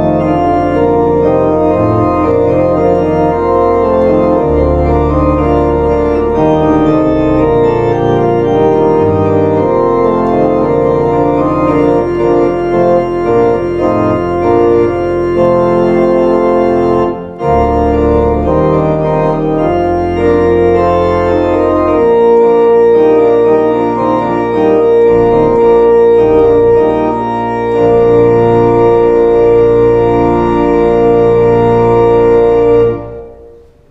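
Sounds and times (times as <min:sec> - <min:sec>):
organ playing sustained chords: 0:00.0 - 0:33.9.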